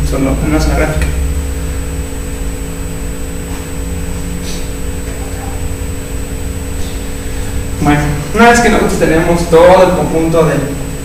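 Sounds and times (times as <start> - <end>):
electrical hum: 0.0 - 11.0
low room rumble: 0.0 - 11.0.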